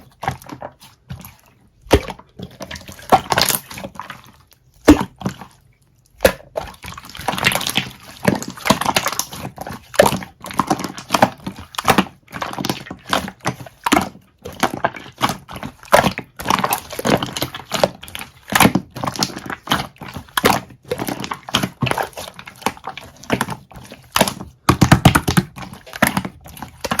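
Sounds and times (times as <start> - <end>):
slime squelches: 0.0 - 27.0.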